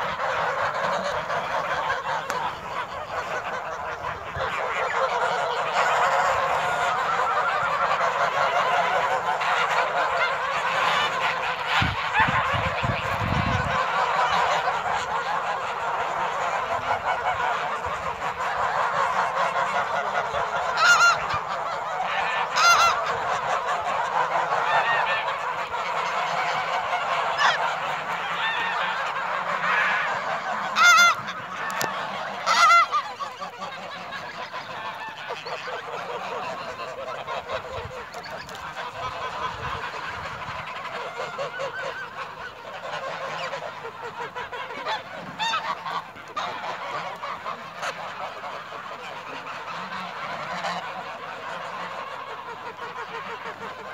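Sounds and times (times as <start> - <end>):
flock of geese honking: 0.0 - 53.9
loud single goose honks: 0.0 - 53.9.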